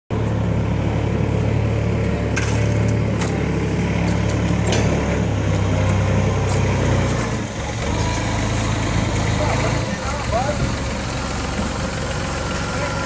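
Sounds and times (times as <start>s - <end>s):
forklift engine idling: 0.1s - 13.0s.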